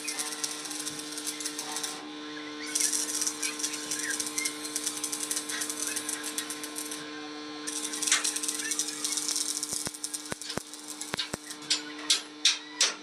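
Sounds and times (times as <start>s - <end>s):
welding arc crackling and sizzling: 0.0s - 12.4s
steady hum: 0.0s - 12.5s.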